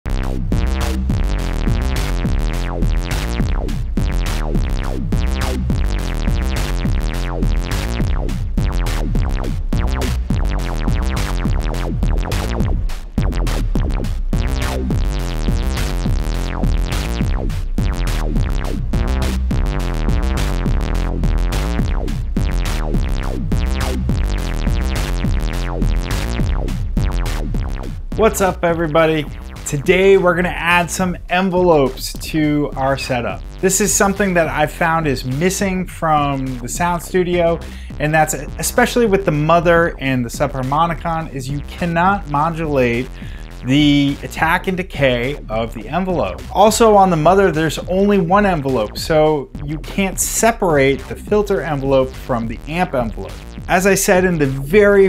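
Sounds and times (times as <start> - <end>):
funky synth bass line: 0.0 - 55.0
programmed drum beat: 0.1 - 55.0.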